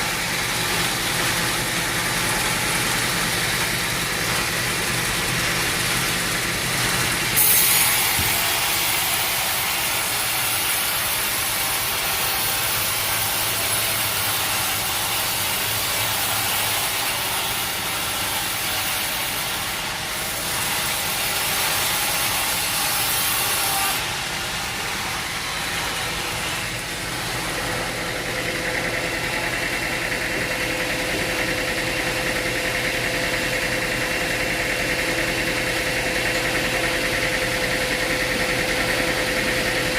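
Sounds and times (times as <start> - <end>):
saw cutting through log: 0.0 - 39.9
sawmill machinery running: 0.0 - 39.9.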